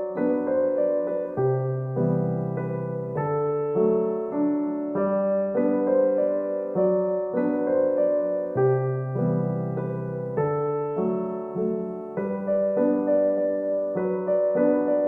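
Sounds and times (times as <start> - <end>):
slow calm piano music: 0.0 - 15.0.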